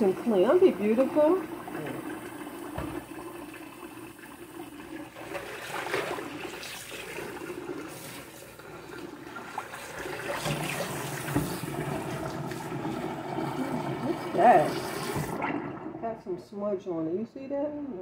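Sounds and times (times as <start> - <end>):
tap water running into sink: 0.0 - 16.1.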